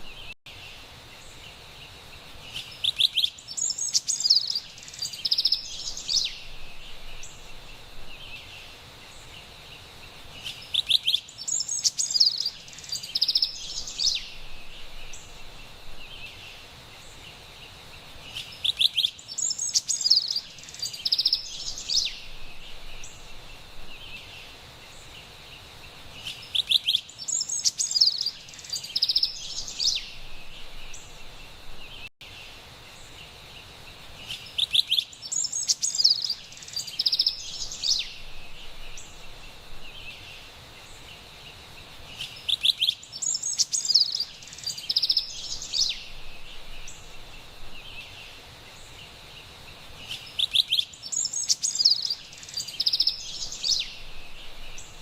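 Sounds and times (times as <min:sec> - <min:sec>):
high background hiss: 0:00.0 - 0:55.0
wren singing: 0:02.4 - 0:09.5, 0:10.3 - 0:17.4, 0:18.2 - 0:25.3, 0:26.2 - 0:32.1, 0:34.2 - 0:55.0.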